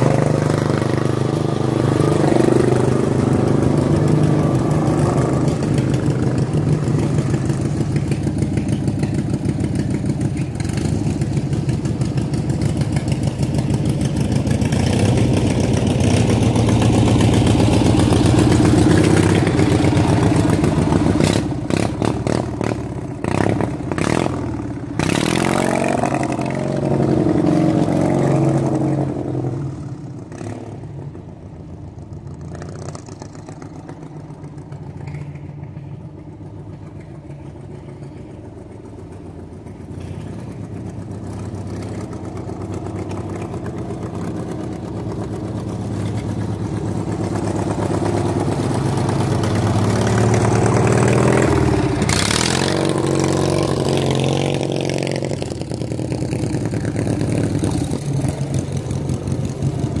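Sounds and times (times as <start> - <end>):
lawn tractor engine running: 0.0 - 29.0, 31.8 - 60.0.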